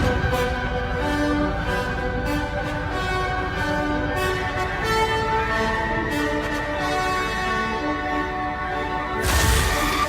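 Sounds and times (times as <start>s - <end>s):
orchestral string music: 0.0s - 10.0s.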